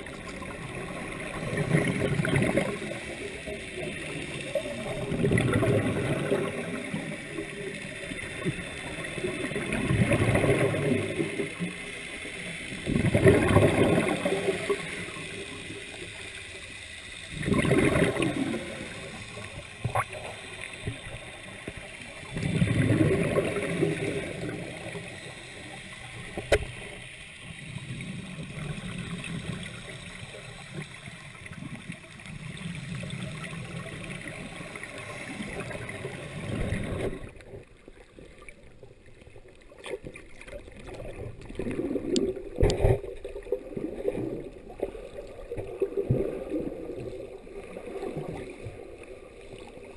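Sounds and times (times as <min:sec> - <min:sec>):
underwater bubbles gurgling: 0:00.0 - 0:49.9.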